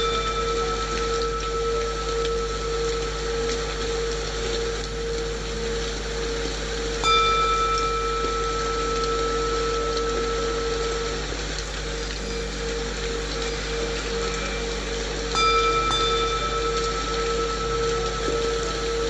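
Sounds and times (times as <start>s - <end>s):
singing bowl hum: 0.0s - 19.0s
singing bowl struck and ringing: 0.0s - 19.0s
steady rain: 0.0s - 19.0s.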